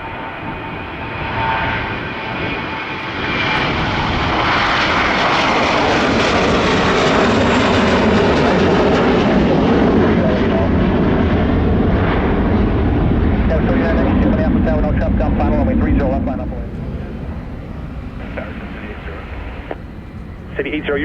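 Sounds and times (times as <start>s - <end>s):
airliner engines passing: 0.0s - 21.0s.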